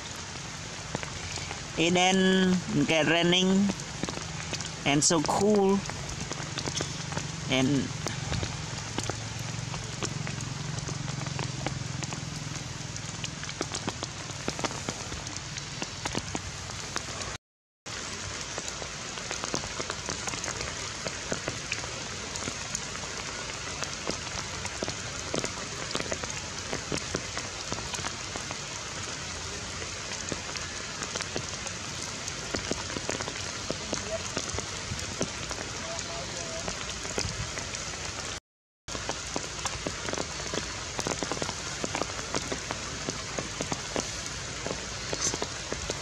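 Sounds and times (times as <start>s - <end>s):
steady rain: 0.0s - 46.0s
raindrops tapping: 0.1s - 46.0s.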